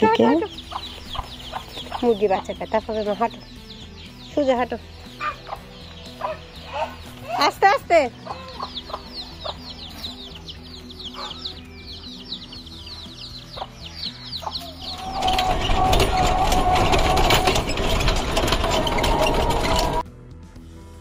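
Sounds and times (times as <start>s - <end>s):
chicks peeping: 0.0s - 7.4s, 8.2s - 20.0s.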